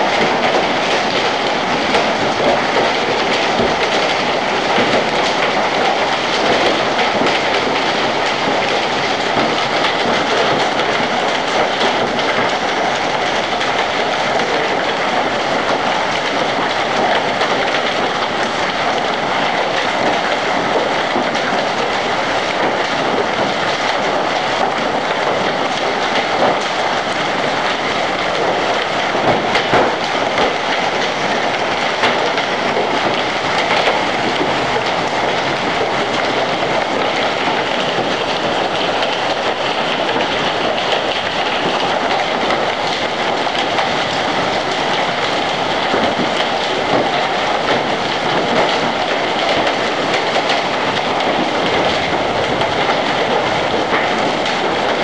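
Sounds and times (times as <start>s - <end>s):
hailstones clattering: 0.0s - 55.0s.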